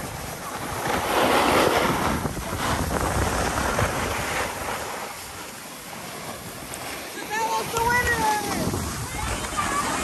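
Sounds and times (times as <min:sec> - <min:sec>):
skis scraping over snow: 0:00.0 - 0:10.0
wind rushing over microphone: 0:00.0 - 0:10.0.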